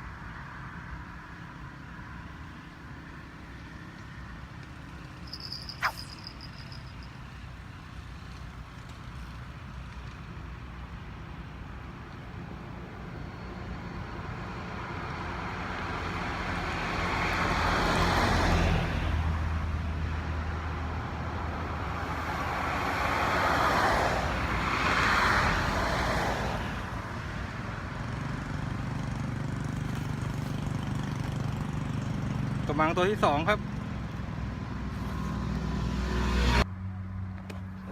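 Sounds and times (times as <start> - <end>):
vehicles passing by: 0.0 - 37.9.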